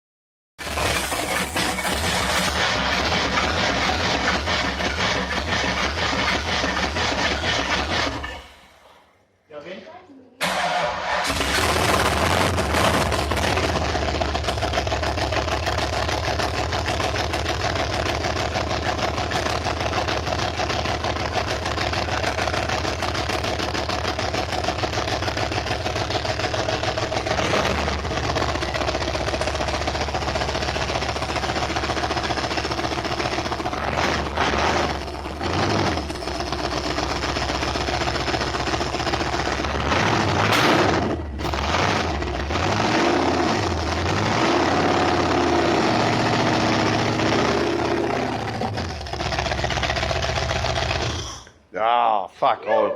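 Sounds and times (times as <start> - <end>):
engine running with fast rattle: 0.6 - 8.7, 10.4 - 51.5.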